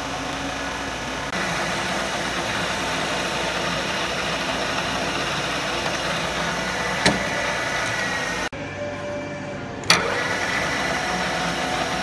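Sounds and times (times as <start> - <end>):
milling machine running: 0.0 - 8.5, 9.8 - 12.0.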